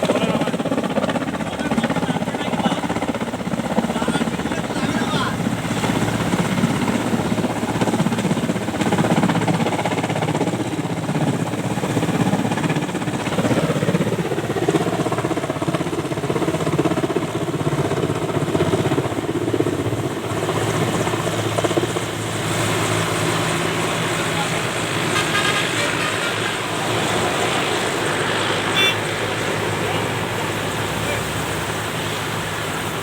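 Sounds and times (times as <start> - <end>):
helicopter rotor beat: 0.0 - 33.0.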